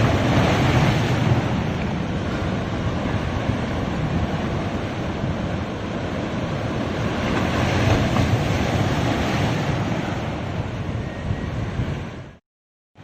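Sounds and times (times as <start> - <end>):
ocean surf breaking: 0.0 - 12.4.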